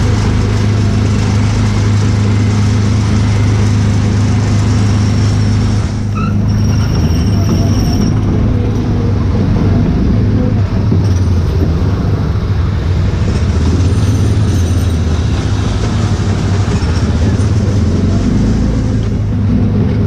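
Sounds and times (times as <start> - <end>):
road and wind noise: 0.0 - 20.0
small gasoline engine droning: 0.0 - 20.0.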